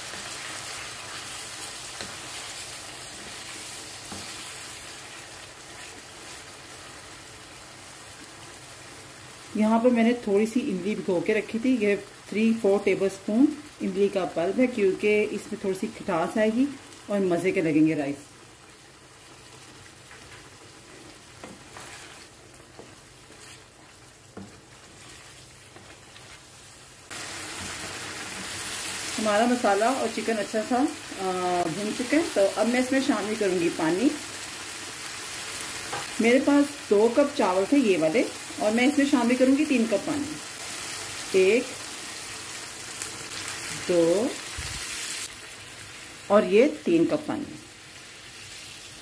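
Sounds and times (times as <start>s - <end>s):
chicken sizzling in a frying pan: 0.0s - 49.0s.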